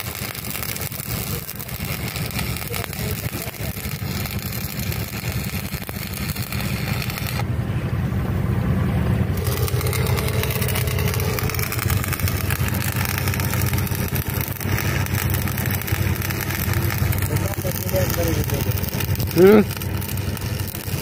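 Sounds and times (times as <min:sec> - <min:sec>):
electric arc welding crackling: 0:00.0 - 0:07.4, 0:09.4 - 0:21.0
steady low hum: 0:00.0 - 0:21.0.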